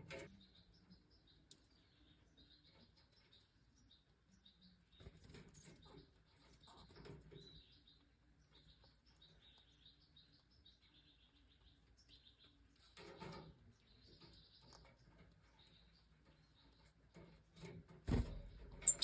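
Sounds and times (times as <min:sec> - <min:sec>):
faint bird chirps: 0:00.0 - 0:17.3, 0:18.4 - 0:19.0.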